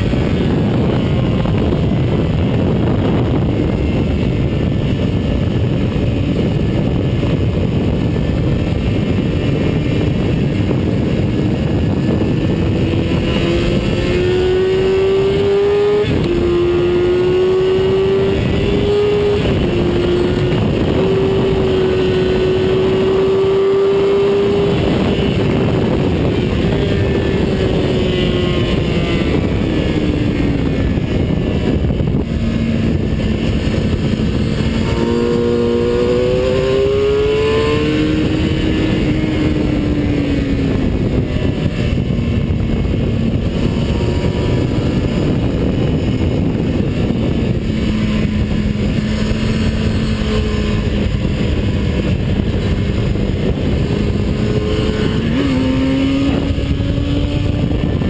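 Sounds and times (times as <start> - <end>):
race car engine: 0.0 - 58.0
road noise: 0.0 - 58.0
wind noise: 0.0 - 58.0.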